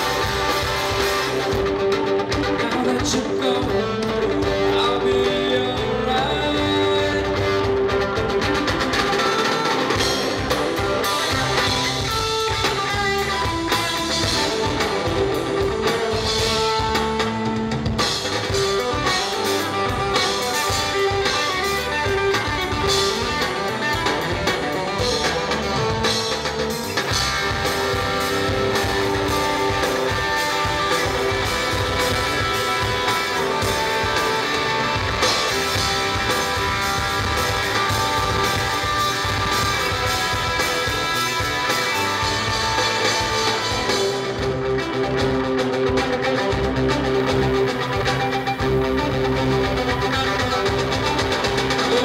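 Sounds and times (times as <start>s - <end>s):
drum kit: 0.0s - 52.0s
electric bass: 0.0s - 52.0s.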